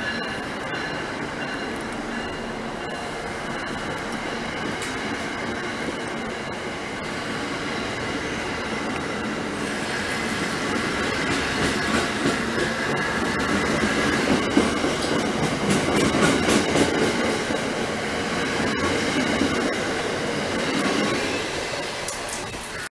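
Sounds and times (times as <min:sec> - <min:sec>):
wheels clicking over rail joints: 0:00.0 - 0:06.4, 0:10.5 - 0:22.9
train rumbling past: 0:00.0 - 0:22.9.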